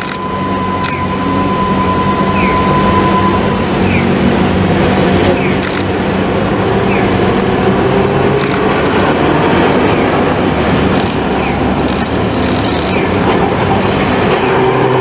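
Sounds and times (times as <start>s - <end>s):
city traffic noise: 0.0s - 15.0s
tram motors humming: 0.0s - 15.0s
tram wheels on track: 0.0s - 15.0s.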